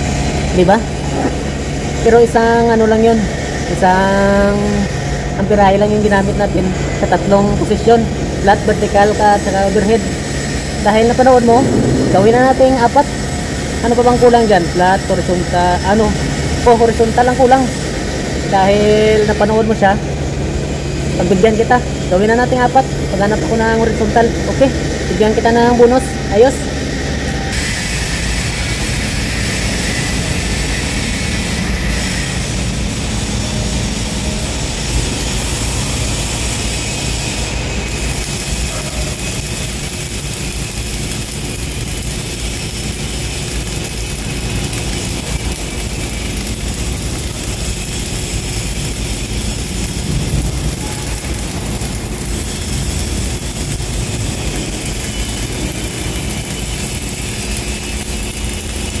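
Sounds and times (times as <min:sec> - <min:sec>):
welding arc crackling and sizzling: 0:00.0 - 0:59.0.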